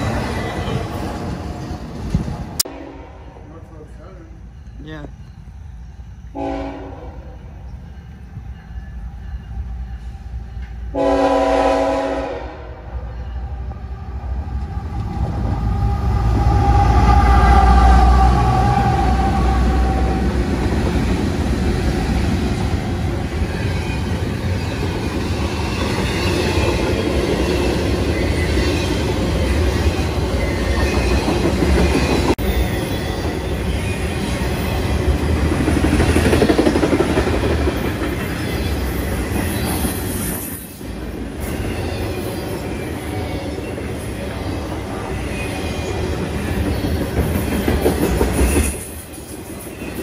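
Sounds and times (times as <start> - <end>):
train wheels rumbling on rails: 0.0 - 2.7, 7.0 - 50.0
diesel locomotives running past: 0.0 - 50.0.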